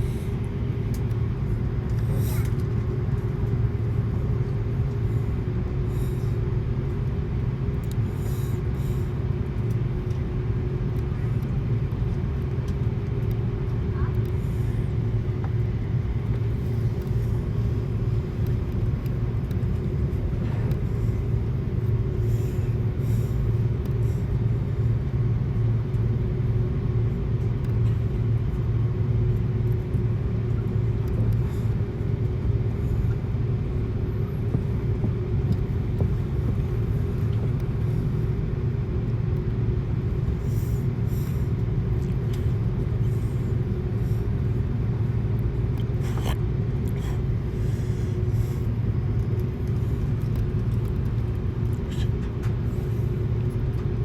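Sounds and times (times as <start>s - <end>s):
airliner cabin drone: 0.0s - 54.0s
faint steady hum: 0.0s - 54.0s.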